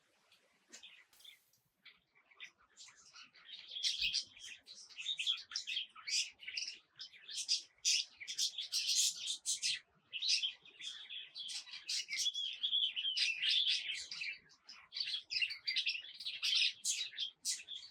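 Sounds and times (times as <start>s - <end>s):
small songbirds chirping: 0.0s - 17.9s.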